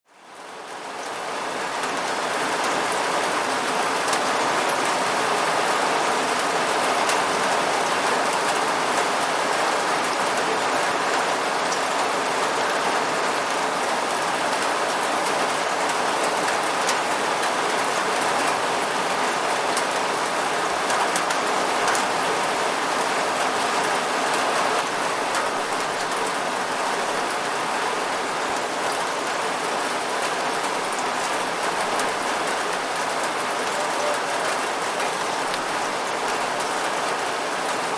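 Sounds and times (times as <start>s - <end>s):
steady rain falling: 0.1s - 37.9s.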